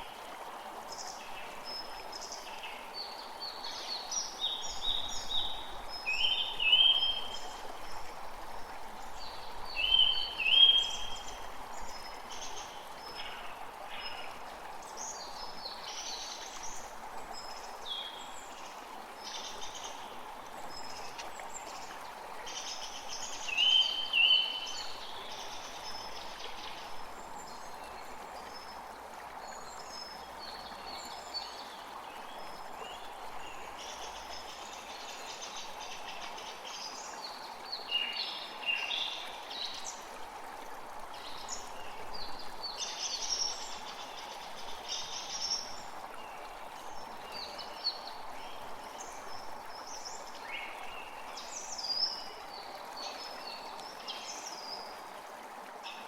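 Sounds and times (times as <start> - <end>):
creek water running: 0.0 - 56.0.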